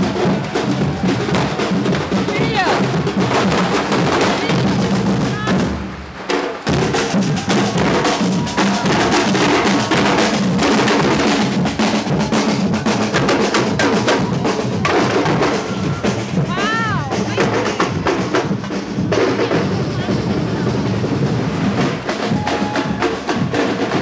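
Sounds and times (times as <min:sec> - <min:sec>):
snare and bass drums playing: 0:00.0 - 0:24.0.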